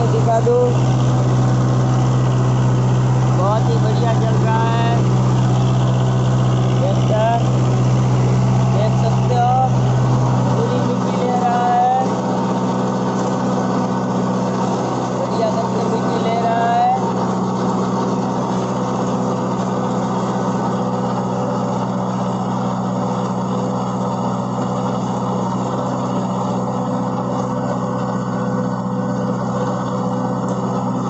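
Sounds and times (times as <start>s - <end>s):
tiller blades churning soil: 0.0s - 31.0s
tractor diesel engine running: 0.0s - 31.0s.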